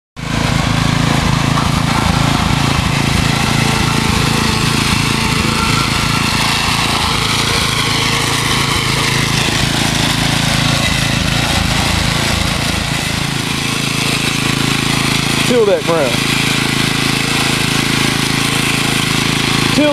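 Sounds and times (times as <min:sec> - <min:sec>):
garden tiller engine running: 0:00.2 - 0:19.9
tines churning soil: 0:00.2 - 0:19.9.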